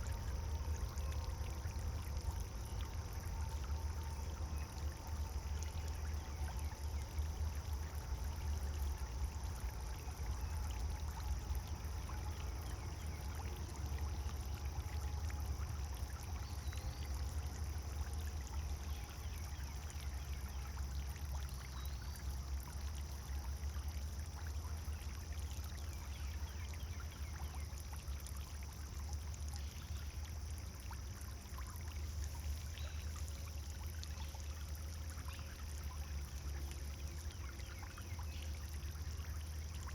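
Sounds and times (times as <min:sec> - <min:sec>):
fountain splashing into water: 0:00.0 - 0:39.9.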